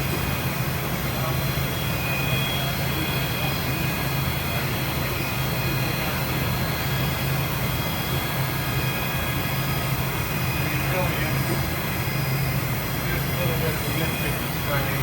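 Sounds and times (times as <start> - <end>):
machine low hum: 0.0 - 15.0
thin high-pitched whines: 0.2 - 15.0.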